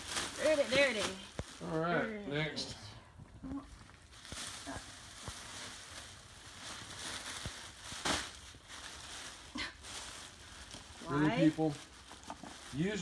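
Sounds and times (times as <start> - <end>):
plastic bag rustling and crinkling: 0.0 - 2.5, 3.4 - 13.0.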